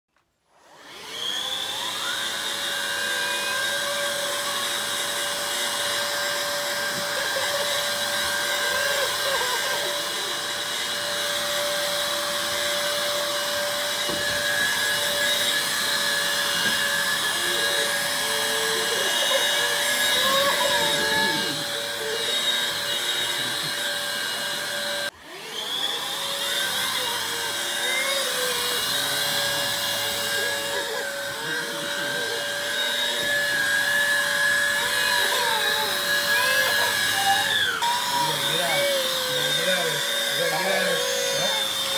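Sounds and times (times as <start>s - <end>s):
vacuum cleaner motor: 0.5s - 41.9s.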